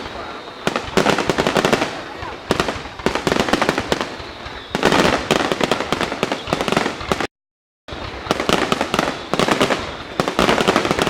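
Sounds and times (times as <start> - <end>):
fireworks banging and crackling: 0.0 - 7.3, 7.9 - 11.0.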